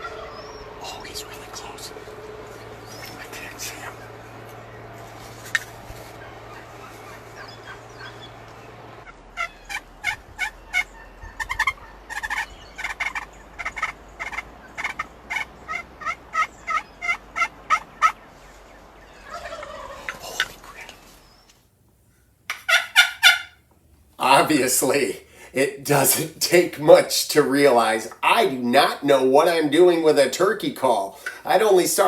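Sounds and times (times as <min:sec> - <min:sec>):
turkeys calling: 0:00.0 - 0:32.0.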